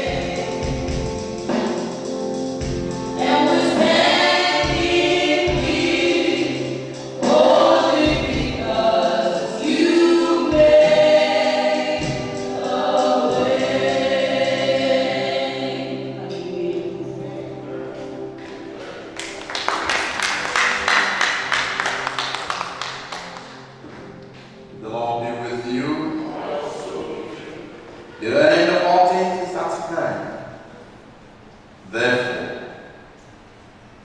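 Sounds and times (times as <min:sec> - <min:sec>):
instrumental backing: 0:00.0 - 0:29.7
choir singing gospel song: 0:00.0 - 0:30.7.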